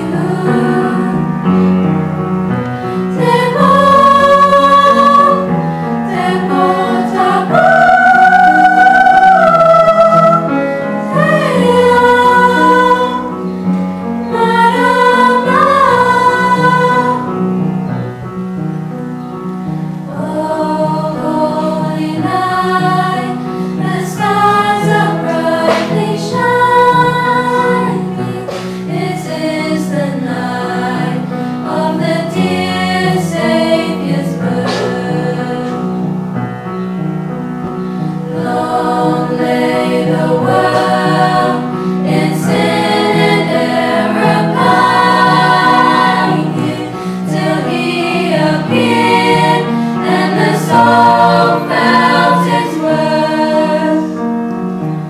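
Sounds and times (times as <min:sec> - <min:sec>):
girls' choir singing: 0:00.0 - 0:17.8, 0:20.0 - 0:36.2, 0:38.2 - 0:54.4.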